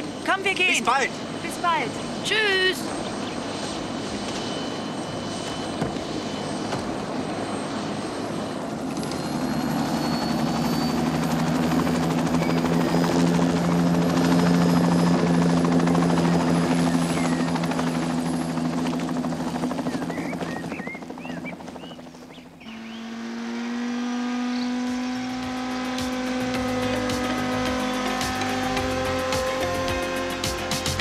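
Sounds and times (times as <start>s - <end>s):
helicopter rotor thrum: 0.0s - 31.0s
turbine whine: 0.0s - 31.0s.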